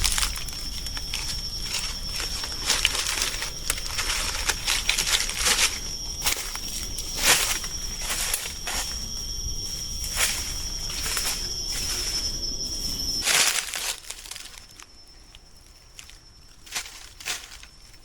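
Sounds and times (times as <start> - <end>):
crunches and rustles on forest floor: 0.0 - 18.0
high insect drone: 0.0 - 18.0.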